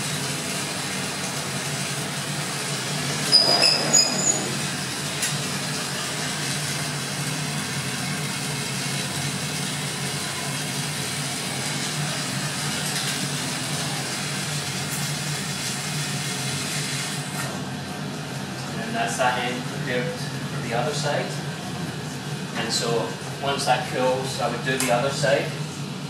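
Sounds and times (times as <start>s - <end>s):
torch flames hissing: 0.0s - 24.4s.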